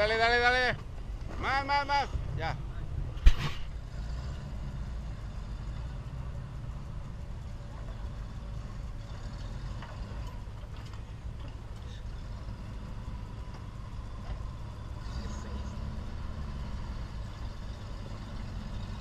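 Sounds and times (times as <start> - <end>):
off-road vehicle engine rumbling: 0.0 - 19.0.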